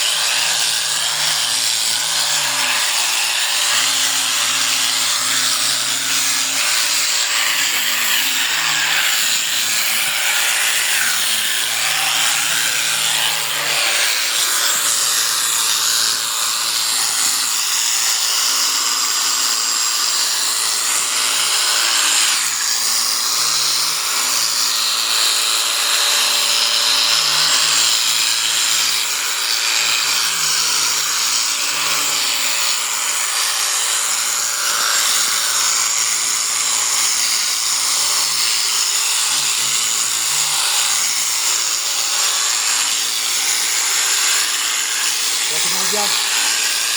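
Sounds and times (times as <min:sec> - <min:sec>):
electric shears buzzing: 0:00.0 - 0:46.9.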